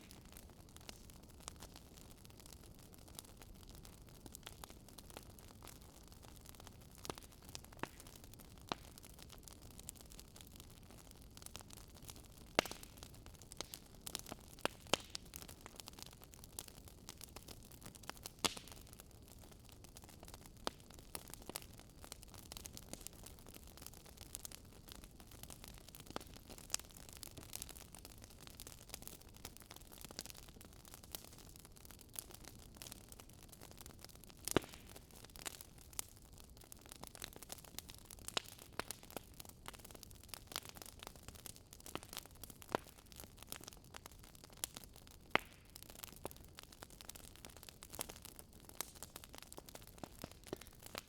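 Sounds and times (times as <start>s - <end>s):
campfire crackling: 0.0s - 51.0s
sharp pops of burning wood: 0.0s - 51.0s.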